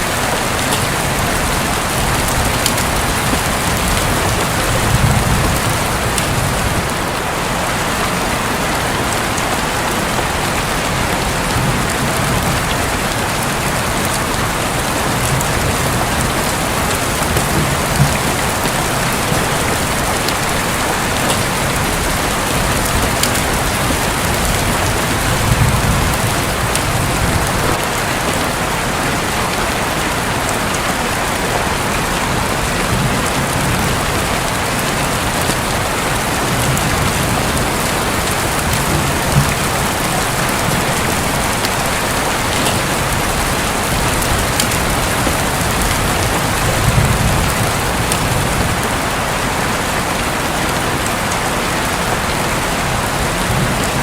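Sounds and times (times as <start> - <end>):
thunder rumbling: 0.0 - 29.4, 31.2 - 51.0
heavy rain drumming on roof: 0.0 - 54.0.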